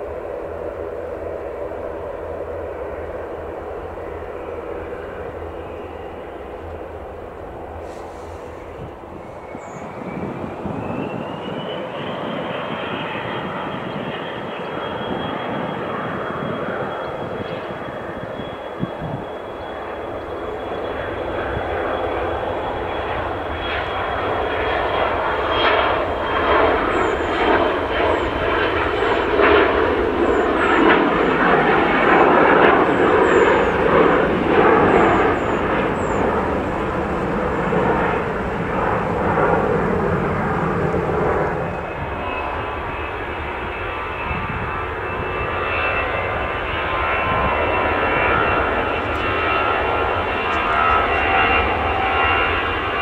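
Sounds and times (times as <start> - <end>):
jet engine high whine: 0.0 - 53.0
jet engines at takeoff power: 0.0 - 53.0.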